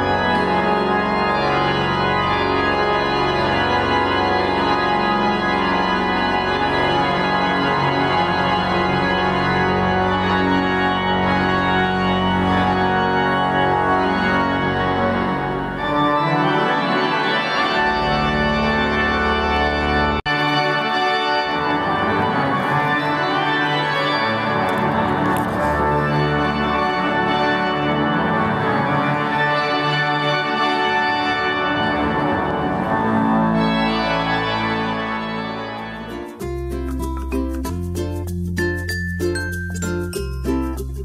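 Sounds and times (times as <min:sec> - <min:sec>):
pipe organ playing held chords: 0:00.0 - 0:36.0.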